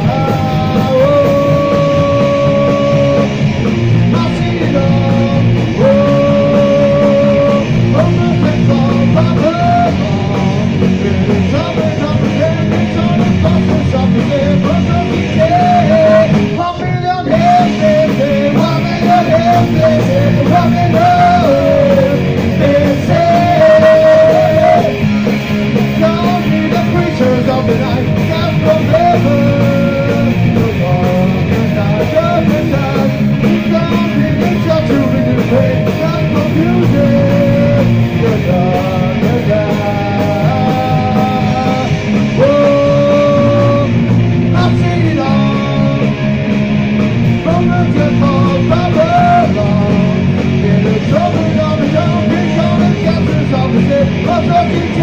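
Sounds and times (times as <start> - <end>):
bass guitar: 0.0 - 55.0
distorted electric guitar: 0.0 - 55.0
drums: 0.0 - 55.0
shouted lead vocal: 0.0 - 55.0.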